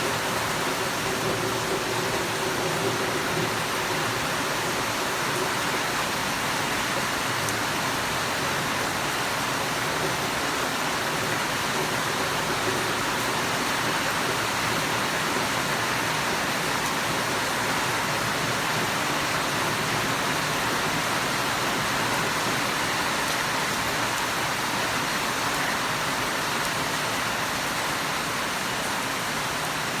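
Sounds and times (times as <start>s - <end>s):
rain falling steadily: 0.0s - 30.0s.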